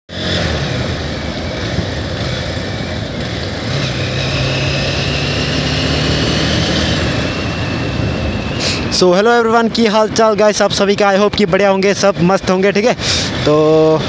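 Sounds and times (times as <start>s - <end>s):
motorcycle engine running: 0.1s - 14.0s
wind and road rush: 0.1s - 14.0s.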